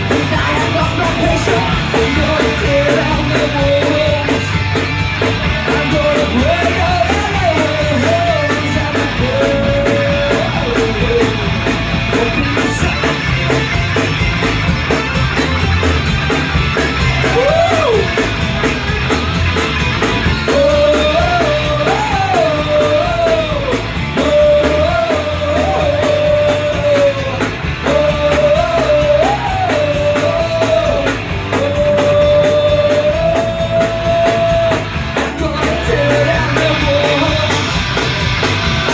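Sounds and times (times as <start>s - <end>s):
bending held guitar melody: 0.0s - 38.9s
punk rock band playing live: 0.0s - 38.9s.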